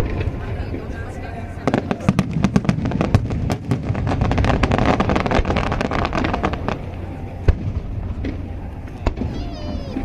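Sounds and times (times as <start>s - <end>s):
continuous rumble: 0.0s - 10.0s
fireworks bangs and crackles: 0.0s - 10.0s.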